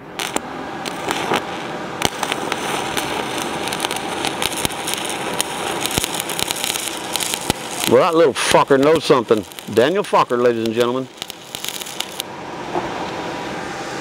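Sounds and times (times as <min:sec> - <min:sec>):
welding arc crackling: 0:00.0 - 0:12.3.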